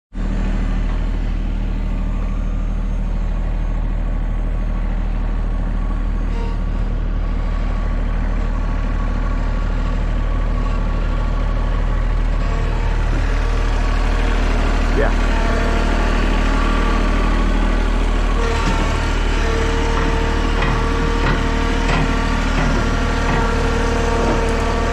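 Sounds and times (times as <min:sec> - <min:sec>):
engine idling: 0:00.1 - 0:24.9.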